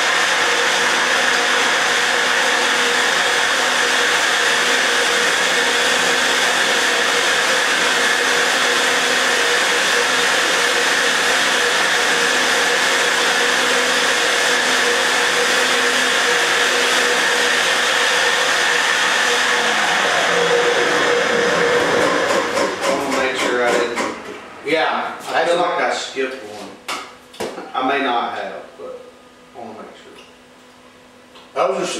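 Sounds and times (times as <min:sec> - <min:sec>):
flowbench air rush and whine: 0:00.0 - 0:26.2.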